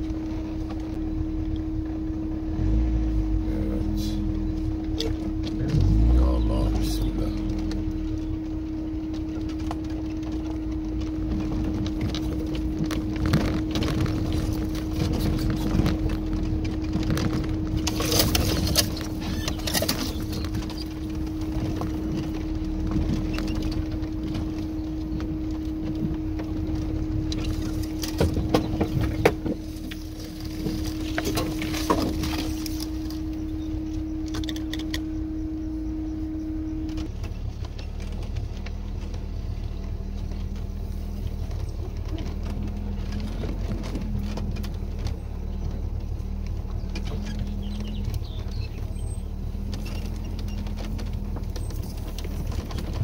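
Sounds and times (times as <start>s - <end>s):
car body rattling over bumps: 0.0s - 53.0s
car engine humming low: 0.0s - 53.0s.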